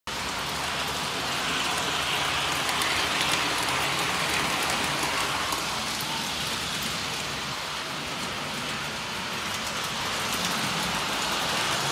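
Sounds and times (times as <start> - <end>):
toy train rumbling on metal rails: 0.1 - 11.9.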